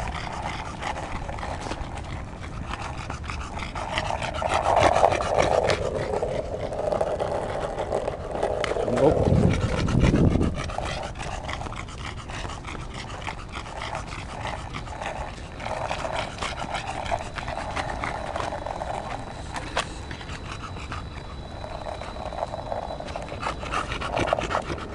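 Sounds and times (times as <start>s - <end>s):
dog panting: 0.0s - 24.9s
skateboard wheels rolling on asphalt: 0.0s - 24.9s.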